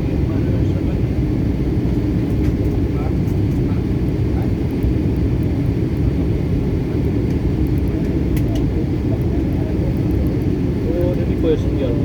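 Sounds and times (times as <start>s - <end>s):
airliner engines rumbling in cabin: 0.0s - 12.0s.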